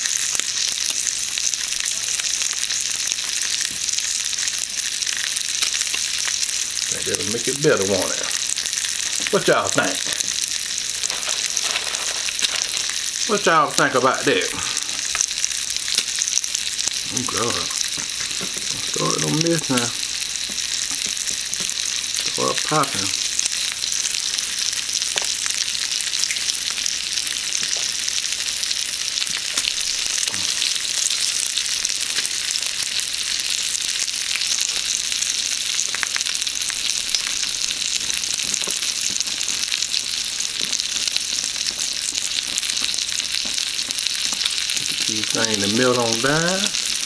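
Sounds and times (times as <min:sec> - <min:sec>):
sausages sizzling in a pan: 0:00.0 - 0:47.0
fat popping and crackling: 0:00.1 - 0:33.0, 0:35.8 - 0:47.0.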